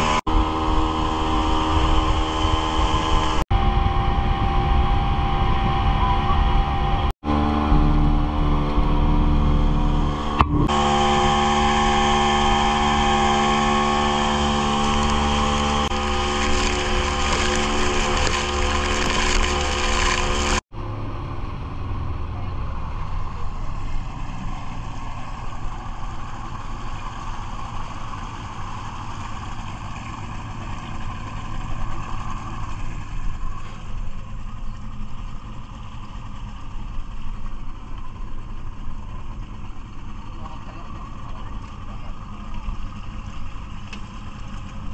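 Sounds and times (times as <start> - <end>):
outboard motor running: 0.0 - 21.0, 22.2 - 44.9
water rushing past hull: 0.0 - 44.9.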